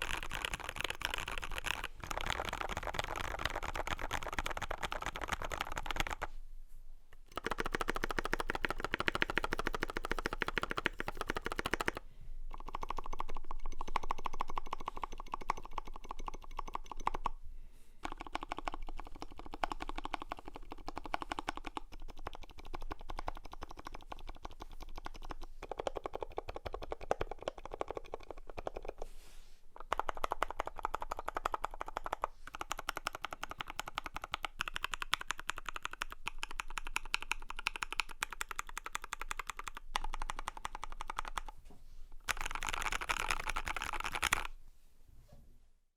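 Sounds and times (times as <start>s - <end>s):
fast mechanical keyboard typing: 0.0s - 6.3s, 7.3s - 17.3s, 18.0s - 29.0s, 29.8s - 41.5s, 42.2s - 44.5s.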